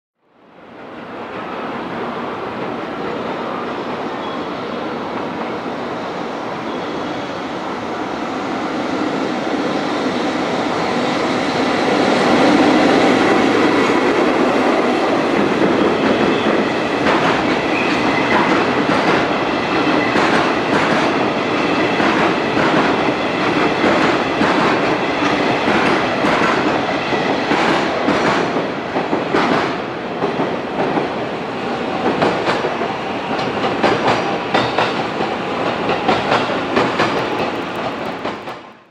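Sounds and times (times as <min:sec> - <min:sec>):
electric locomotive rumbling past: 0:00.6 - 0:38.9.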